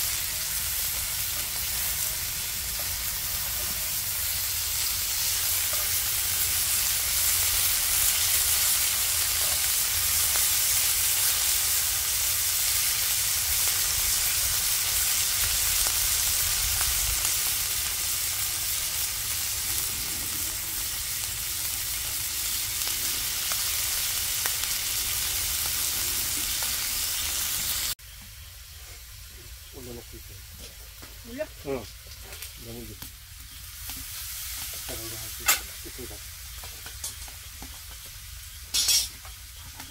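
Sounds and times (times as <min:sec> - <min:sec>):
meat sizzling in skillet: 0:00.0 - 0:39.9.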